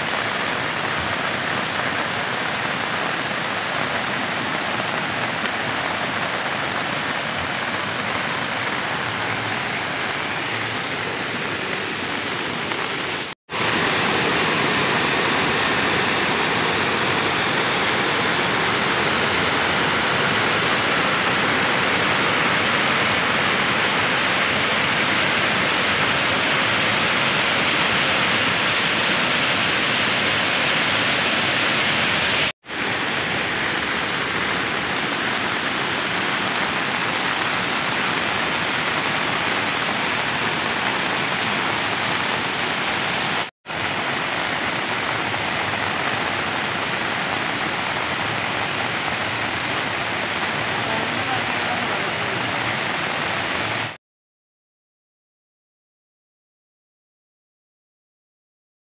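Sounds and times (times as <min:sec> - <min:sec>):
waterfall roaring over rock: 0:00.0 - 0:54.0.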